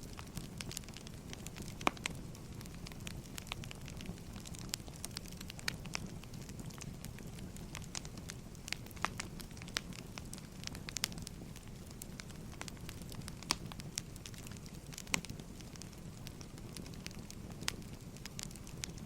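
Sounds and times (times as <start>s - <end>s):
firewood crackling: 0.0s - 19.0s
low rumble of flames: 0.0s - 19.0s.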